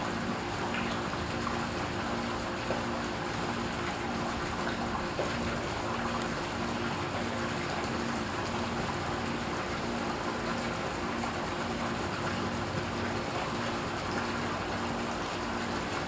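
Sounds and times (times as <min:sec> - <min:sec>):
fountain water running: 0:00.0 - 0:16.0.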